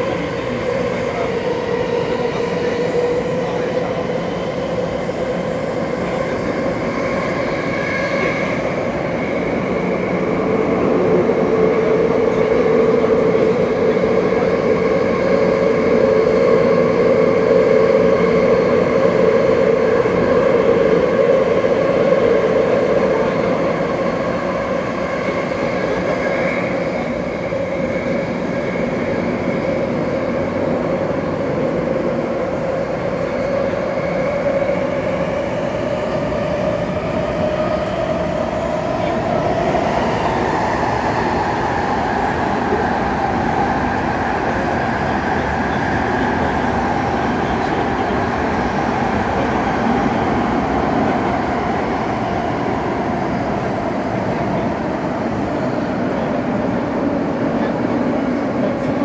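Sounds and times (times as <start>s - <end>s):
subway car rumbling in tunnel: 0.0s - 59.0s.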